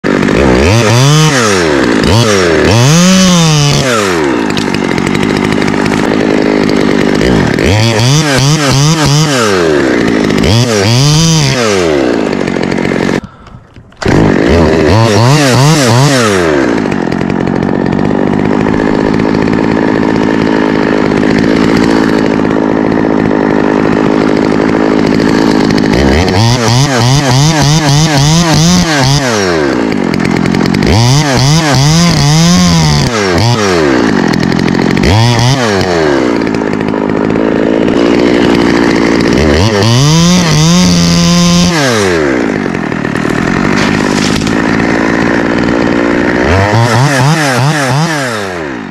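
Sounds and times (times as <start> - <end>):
chainsaw cutting limbs: 0.0 - 48.9.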